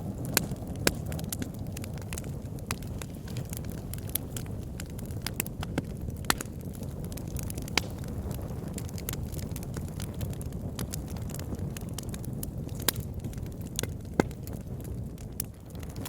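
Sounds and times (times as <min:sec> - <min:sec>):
fire flames rumbling: 0:00.0 - 0:16.0
wood fire crackling and popping: 0:00.0 - 0:16.0.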